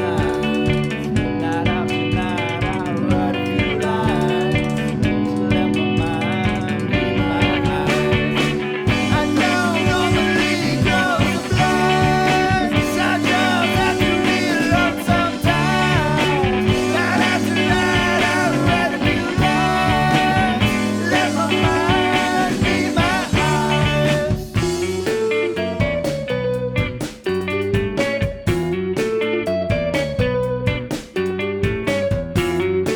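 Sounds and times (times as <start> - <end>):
indie rock band playing: 0.0 - 32.9.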